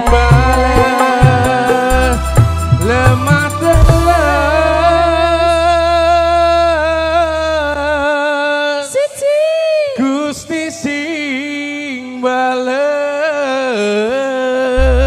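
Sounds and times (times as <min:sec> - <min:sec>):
person singing through a pa: 0:00.0 - 0:15.0.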